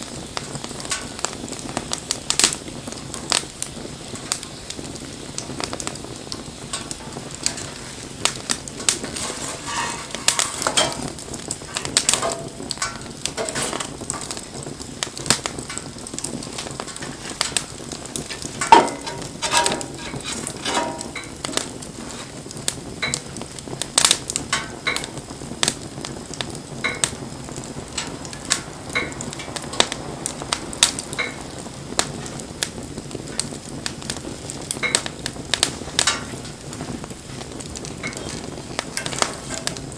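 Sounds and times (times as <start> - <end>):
burning wood sizzling and whistling: 0.0 - 39.9
campfire crackling and popping: 0.0 - 39.9.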